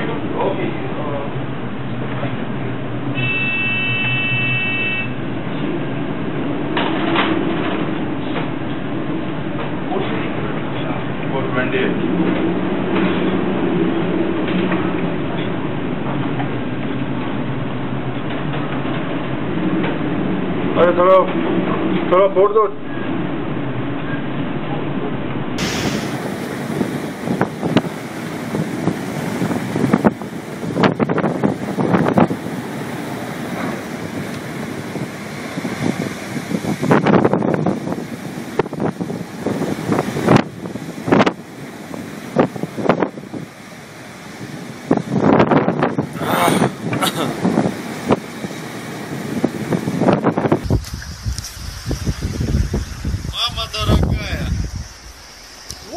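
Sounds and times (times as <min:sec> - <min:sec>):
low hum of ship: 0:00.0 - 0:55.9
storm wind and seas rushing: 0:00.0 - 0:55.9
waves hitting the bow: 0:01.4 - 0:55.9.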